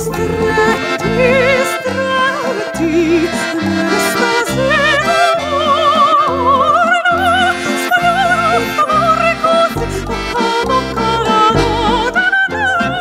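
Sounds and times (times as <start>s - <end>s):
live ensemble playing: 0.0s - 13.0s
woman singing with vibrato: 0.0s - 13.0s.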